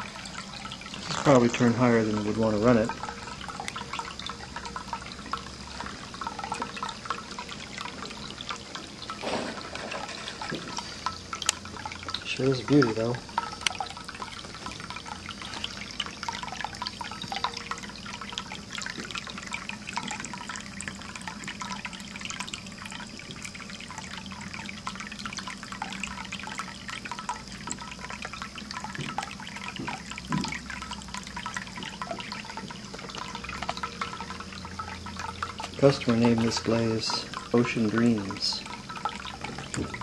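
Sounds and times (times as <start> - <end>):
small drips: 0.0 - 40.0
water trickling into a bowl: 0.0 - 40.0.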